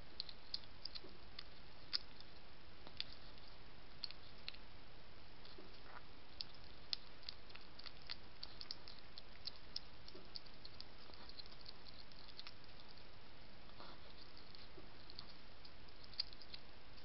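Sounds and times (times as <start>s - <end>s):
hedgehog crunching food: 0.0s - 4.8s, 5.4s - 17.0s
steady background hiss: 0.0s - 17.0s.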